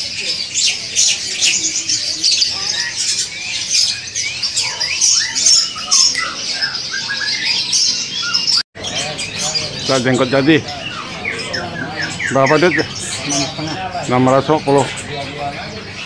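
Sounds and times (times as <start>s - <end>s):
birds chirping and chattering: 0.0s - 16.0s.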